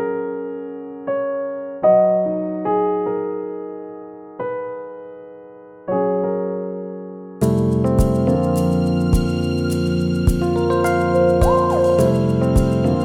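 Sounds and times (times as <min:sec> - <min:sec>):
slow gentle piano: 0:00.0 - 0:13.0.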